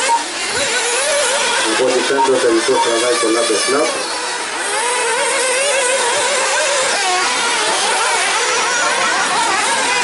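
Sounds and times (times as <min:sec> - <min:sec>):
small two-stroke engines revving: 0:00.0 - 0:10.0.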